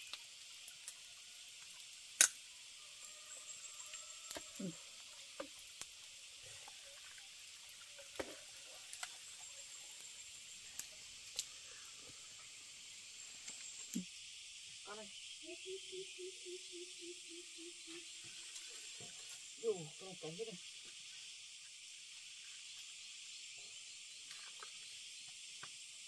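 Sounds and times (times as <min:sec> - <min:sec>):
forest insects hissing: 0:00.0 - 0:26.0.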